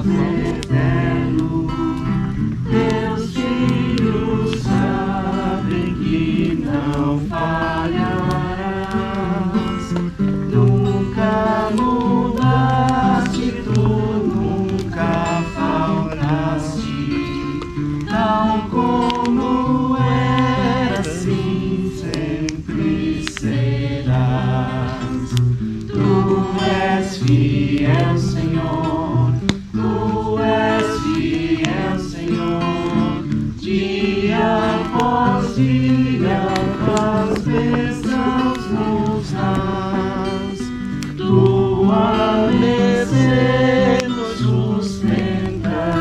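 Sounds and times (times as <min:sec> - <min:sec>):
acoustic guitar: 0:00.0 - 0:46.0
group singing a hymn: 0:00.0 - 0:46.0.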